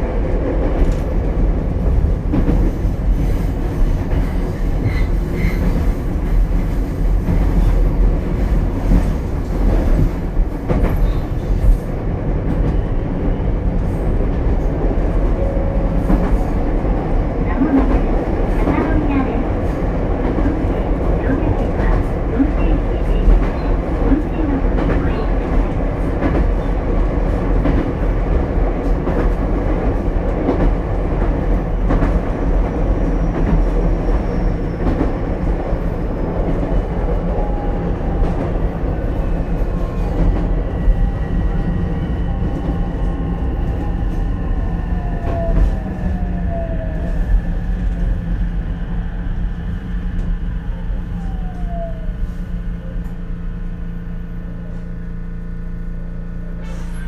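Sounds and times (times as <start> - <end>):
train wheels rumbling over rails: 0.0 - 55.6.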